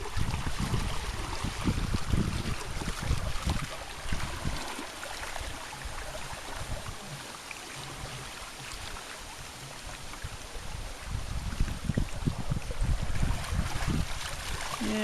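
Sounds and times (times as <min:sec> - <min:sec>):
small water splashes: 0:00.0 - 0:15.0
water rushing along hulls: 0:00.0 - 0:15.0.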